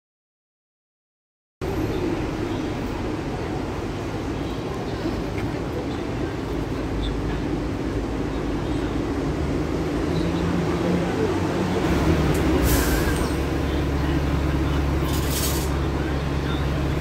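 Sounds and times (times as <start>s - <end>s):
bus diesel engine idling: 1.6s - 17.0s.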